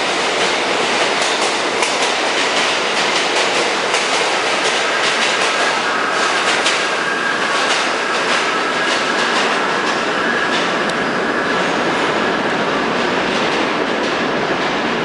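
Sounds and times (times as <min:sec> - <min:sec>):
train wheels roaring on rails: 0:00.0 - 0:15.0.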